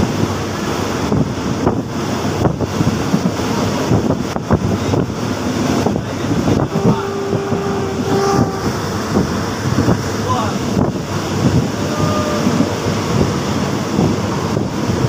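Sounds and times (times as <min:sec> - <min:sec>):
train carriage rumble: 0:00.0 - 0:15.0
wind rushing past window: 0:00.0 - 0:15.0.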